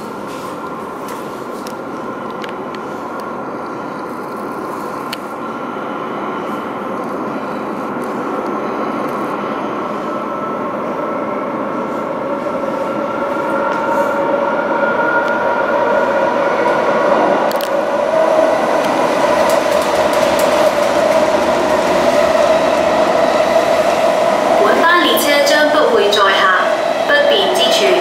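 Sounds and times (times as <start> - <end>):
train multi-tone whine: 0.0 - 28.0
train rumbling through station: 0.0 - 28.0.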